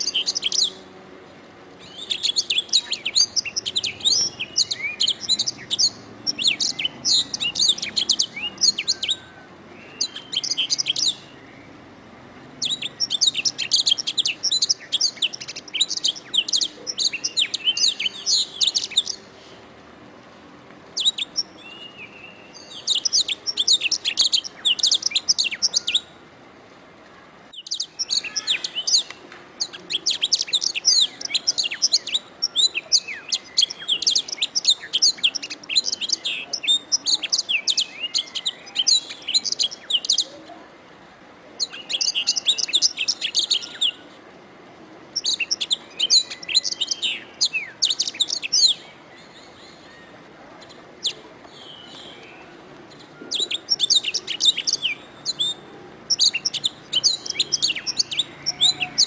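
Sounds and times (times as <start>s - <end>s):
canary singing trills: 0.0s - 1.0s, 1.8s - 11.9s, 12.5s - 19.4s, 21.0s - 26.2s, 27.5s - 40.6s, 41.6s - 44.2s, 45.1s - 59.0s.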